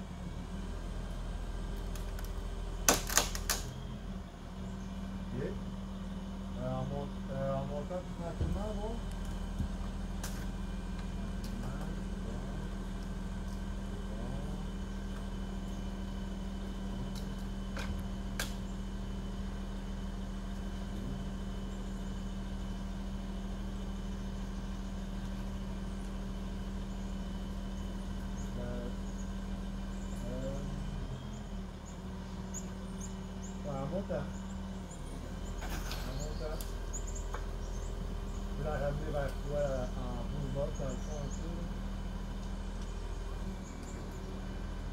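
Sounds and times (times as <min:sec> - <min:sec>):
large machine engine droning: 0:00.0 - 0:44.9.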